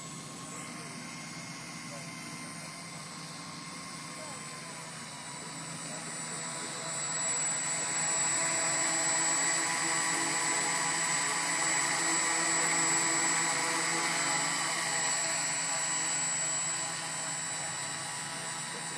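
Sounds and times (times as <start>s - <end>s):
electric motors and propellers whining: 0.0s - 18.9s.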